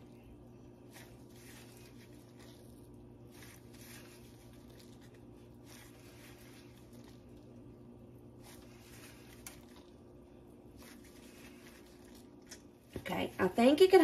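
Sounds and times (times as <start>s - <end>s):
wet cheese curds squishing: 0.0s - 13.0s
steady low hum: 0.0s - 14.0s.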